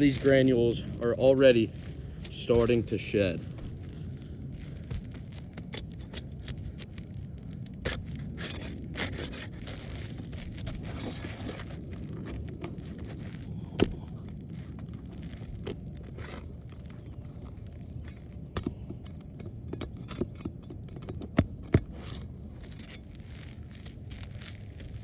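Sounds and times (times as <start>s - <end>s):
crackles and clicks: 0.0s - 25.0s
flat bar scraping under shingles: 0.0s - 25.0s.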